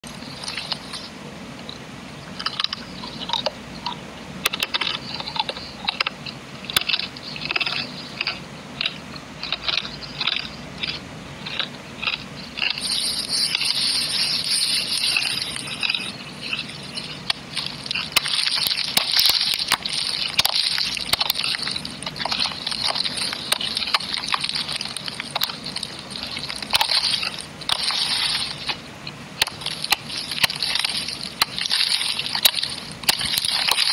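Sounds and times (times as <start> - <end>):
dry clay crunching and crumbling: 6.7 - 33.9.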